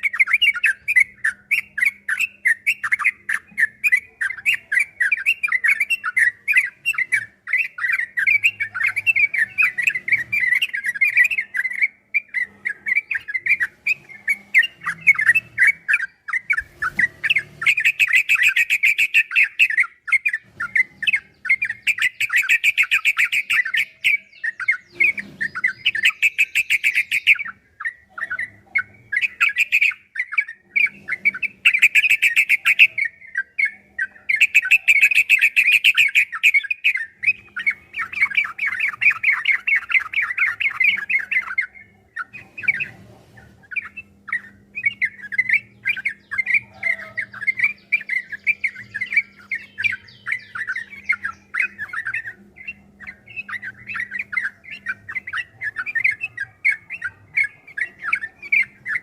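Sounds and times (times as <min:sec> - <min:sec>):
bird singing rapid chatter: 0:00.0 - 0:59.0.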